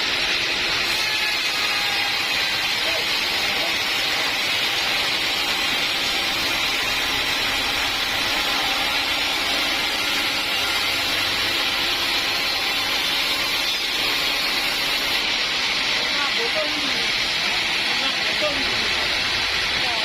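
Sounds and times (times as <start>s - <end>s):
sawmill machinery hissing: 0.0s - 20.0s.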